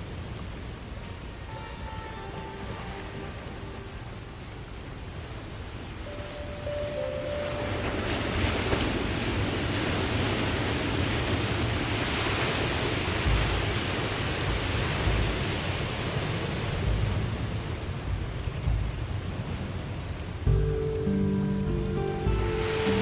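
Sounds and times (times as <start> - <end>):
waterfall rushing: 0.0 - 23.0
wind buffeting microphone: 2.3 - 21.1.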